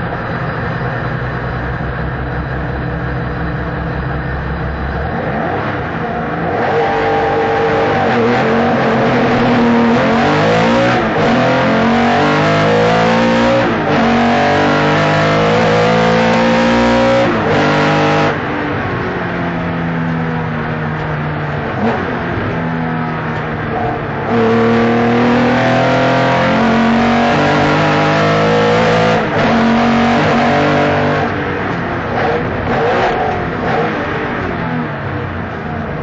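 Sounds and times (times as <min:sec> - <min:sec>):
car engine running hard: 0:00.0 - 0:36.0.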